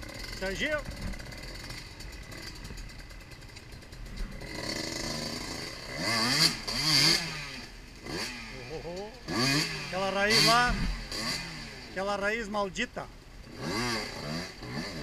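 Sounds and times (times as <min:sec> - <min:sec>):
off-road motorcycle engine revving: 0:00.0 - 0:15.0.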